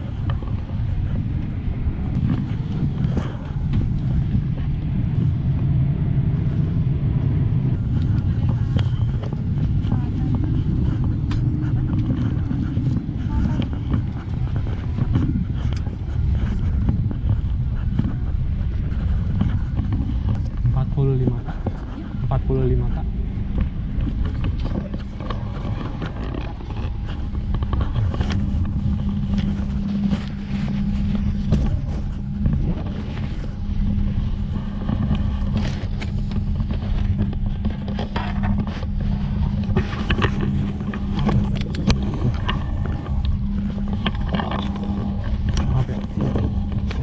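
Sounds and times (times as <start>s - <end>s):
aircraft cabin hum: 0.0s - 47.0s
knocks and clicks of passengers: 0.0s - 47.0s
faint voices: 7.7s - 47.0s.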